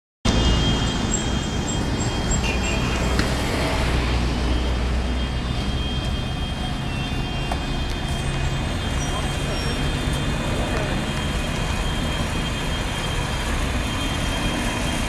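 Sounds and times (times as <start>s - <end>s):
road traffic rumble: 0.2s - 15.0s.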